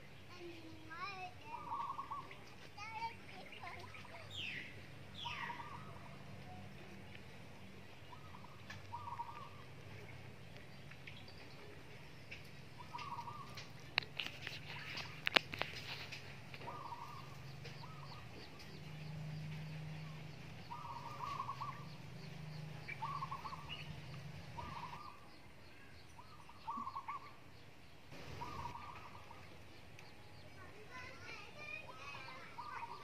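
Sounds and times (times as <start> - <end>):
bird trilled calls: 1.4 - 6.2, 8.0 - 10.2, 12.2 - 33.0.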